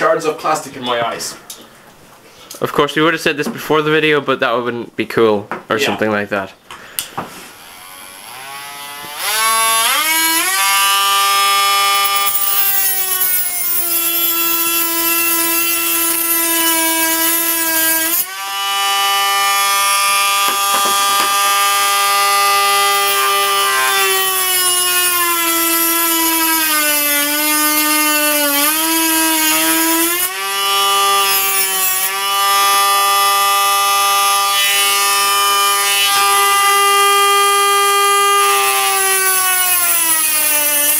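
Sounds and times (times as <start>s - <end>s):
rotary tool cutting plastic: 7.6s - 40.9s.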